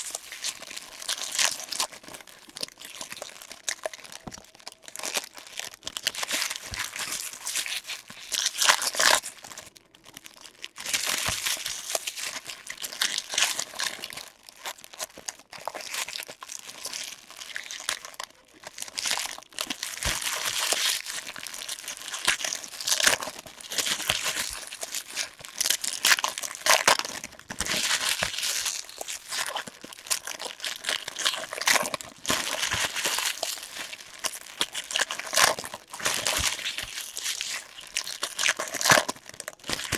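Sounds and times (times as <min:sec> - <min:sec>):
plastic wrappers crinkling and tearing: 0:00.0 - 0:39.9.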